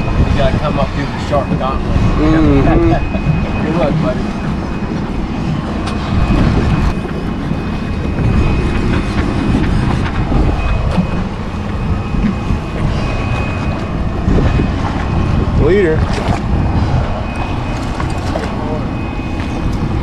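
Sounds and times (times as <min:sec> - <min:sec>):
boat engine rumble: 0:00.0 - 0:20.0
water washing against hull: 0:00.0 - 0:20.0
wind: 0:00.0 - 0:20.0.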